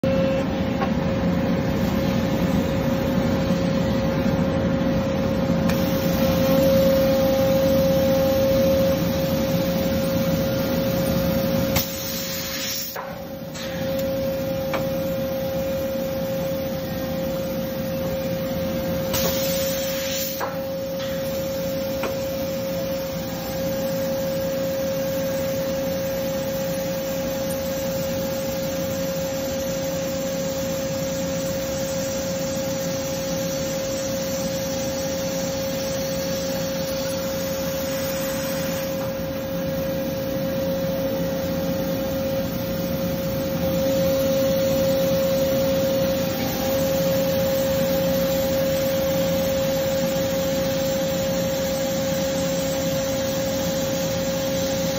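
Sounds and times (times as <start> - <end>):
machine hum with whine: 0.0 - 54.9.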